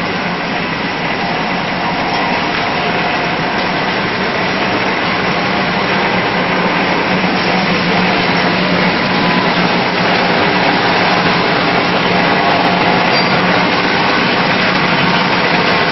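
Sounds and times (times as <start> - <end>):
production line machinery din: 0.0 - 15.9.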